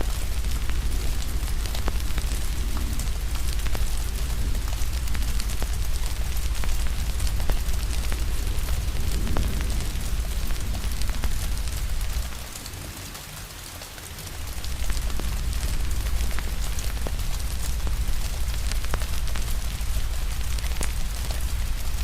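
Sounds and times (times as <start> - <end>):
deep low rumble: 0.0 - 12.9, 14.3 - 22.0
fire crackling: 0.0 - 22.0
steady rain: 0.0 - 22.0.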